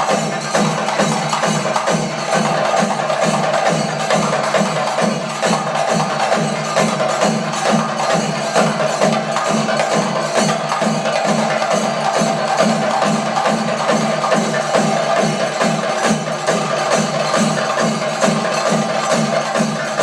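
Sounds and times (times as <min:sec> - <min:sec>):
drums played with sticks: 0:00.0 - 0:20.0.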